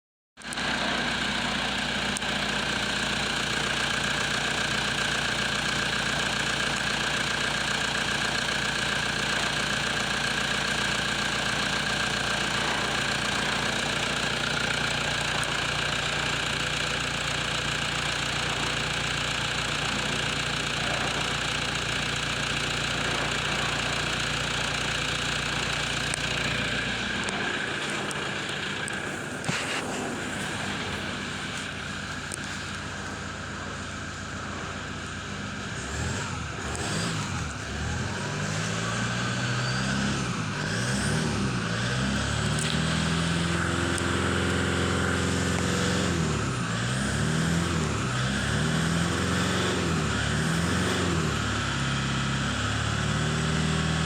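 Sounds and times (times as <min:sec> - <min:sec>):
diesel engine idling: 0:00.4 - 0:54.0.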